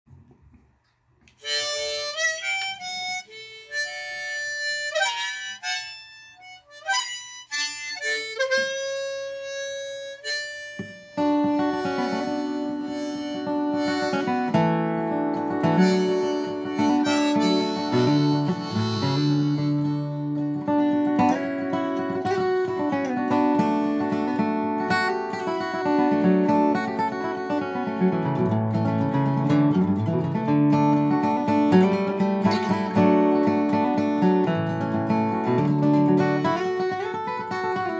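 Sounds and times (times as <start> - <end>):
acoustic guitar strumming: 1.4 - 37.9
harmonica melody: 1.4 - 37.9.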